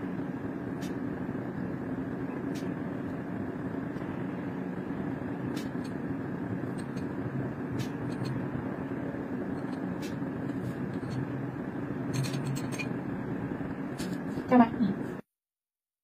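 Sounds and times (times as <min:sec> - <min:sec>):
workroom rumble: 0:00.0 - 0:15.2.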